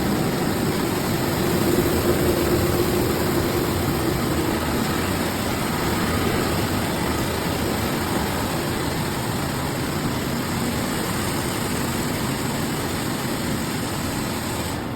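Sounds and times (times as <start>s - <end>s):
rice milling machine running: 0.0s - 14.9s.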